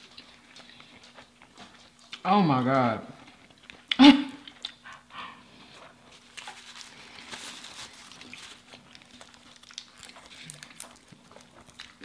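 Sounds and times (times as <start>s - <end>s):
faint steady hum: 0.0s - 12.0s
soft chewing: 0.0s - 12.0s.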